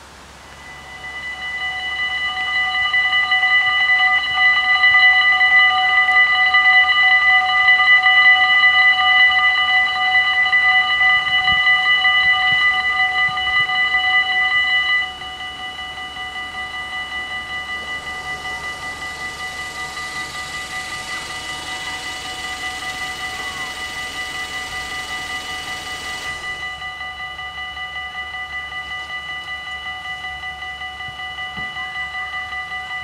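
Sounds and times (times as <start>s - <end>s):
level-crossing warning bells ringing: 0.0s - 33.0s.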